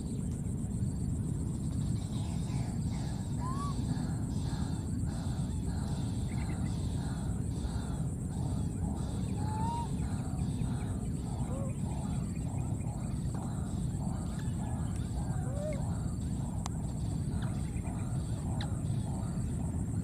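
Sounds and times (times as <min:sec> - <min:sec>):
chattering animal calls: 0:01.9 - 0:19.9.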